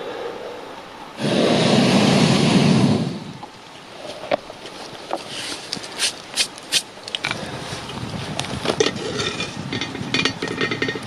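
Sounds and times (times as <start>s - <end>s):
wood fire crackling and rushing: 1.2s - 11.0s.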